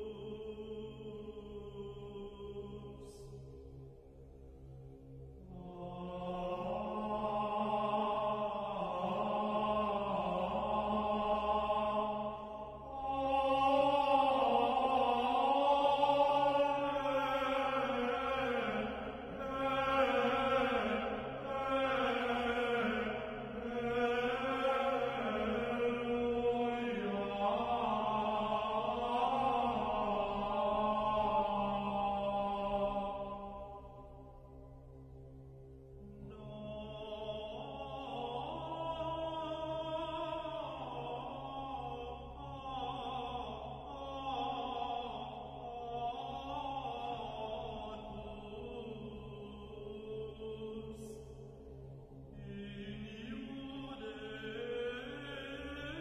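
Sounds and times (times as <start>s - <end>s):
slow chant-like vocal music: 0.0s - 56.0s.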